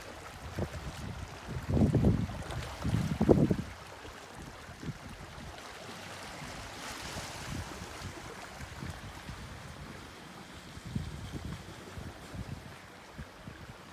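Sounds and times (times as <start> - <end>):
light breeze: 0.0 - 13.9
waves washing over rocks: 0.0 - 13.9.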